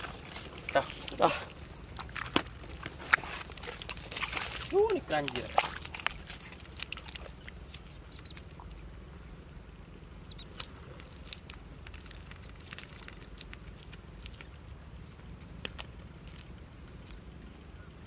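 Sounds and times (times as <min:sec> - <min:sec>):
bare feet squelching on wet mud: 0:00.0 - 0:18.0
steady low rumble: 0:00.0 - 0:18.0.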